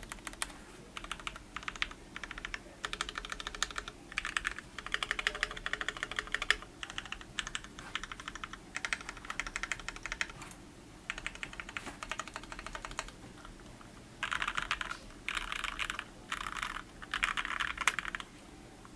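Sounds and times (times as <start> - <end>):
mechanical keyboard typing: 0.0 - 10.4, 11.1 - 13.2, 14.2 - 18.2.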